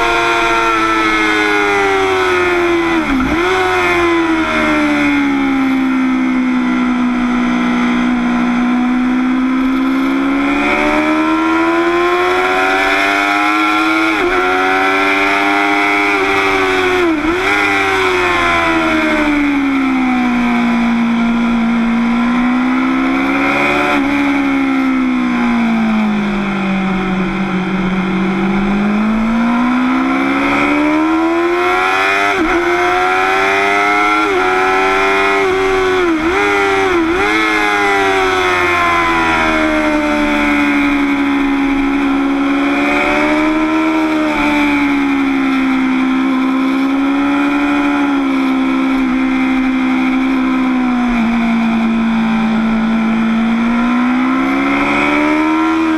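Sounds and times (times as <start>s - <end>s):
motorcycle engine at speed: 0.0s - 55.9s.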